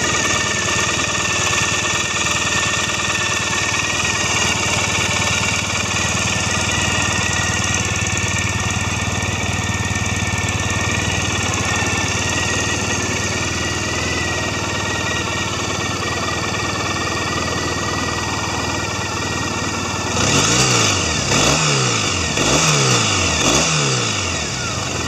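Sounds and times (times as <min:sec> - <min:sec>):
motorcycle engine idling: 0:00.0 - 0:25.0
motorcycle engine revving: 0:00.0 - 0:25.0.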